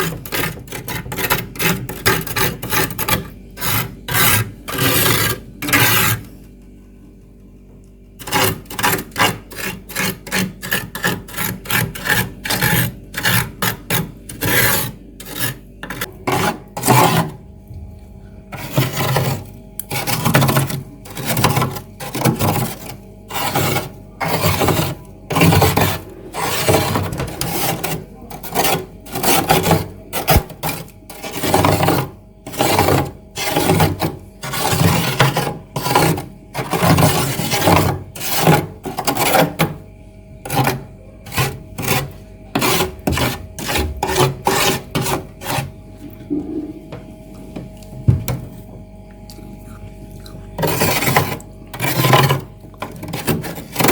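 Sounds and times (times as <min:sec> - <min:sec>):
scraping frost off freezer: 0:00.0 - 0:07.2, 0:08.0 - 0:48.7, 0:49.3 - 0:53.9.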